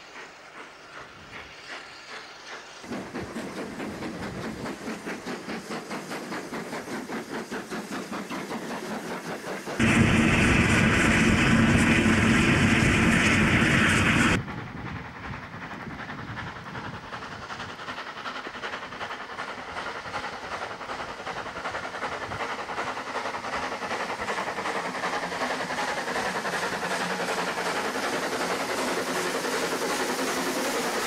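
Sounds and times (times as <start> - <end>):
distant train running: 0.0 - 31.0
steam train passing: 0.0 - 31.0.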